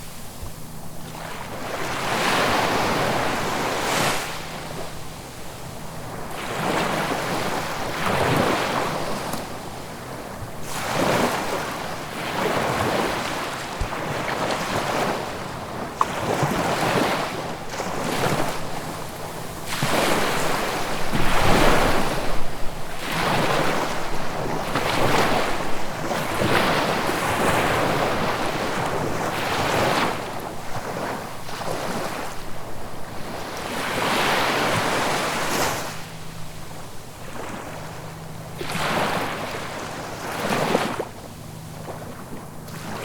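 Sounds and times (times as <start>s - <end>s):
ocean waves breaking: 0.0s - 43.0s.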